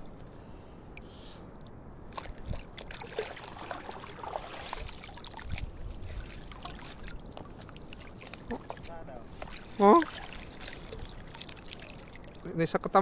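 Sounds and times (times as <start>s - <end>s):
small splashes and clicks: 0.0s - 12.5s
seawater sloshing and trickling: 0.0s - 13.0s.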